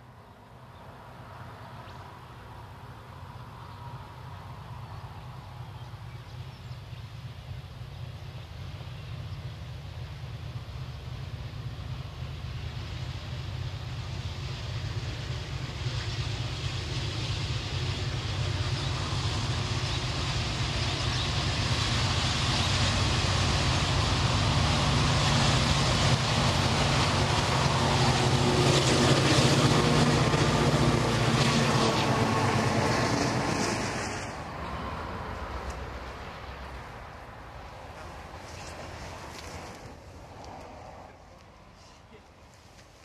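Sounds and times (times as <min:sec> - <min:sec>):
locomotive engines droning: 0:00.0 - 0:43.0
wheel and rail noise: 0:01.2 - 0:43.0.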